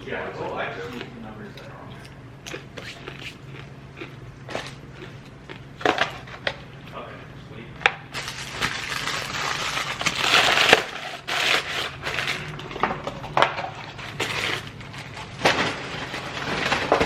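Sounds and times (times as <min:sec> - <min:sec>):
chewing and crunching food: 0:00.0 - 0:07.3, 0:08.1 - 0:17.0.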